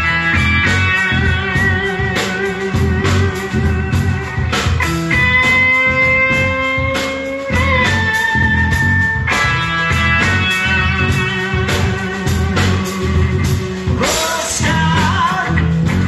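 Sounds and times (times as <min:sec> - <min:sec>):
electric guitar long notes: 0:00.0 - 0:16.0
steady drum beat: 0:00.0 - 0:16.0.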